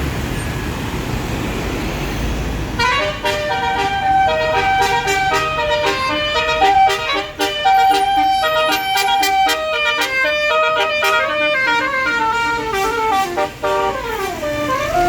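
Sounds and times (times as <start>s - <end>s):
bus air horn playing a melody: 2.8s - 15.0s.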